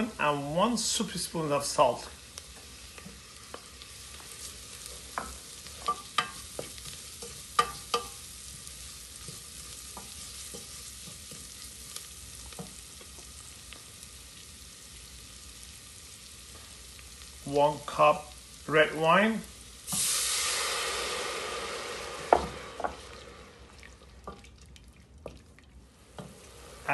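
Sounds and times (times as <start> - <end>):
shallots sizzling in oil: 0.0 - 26.9.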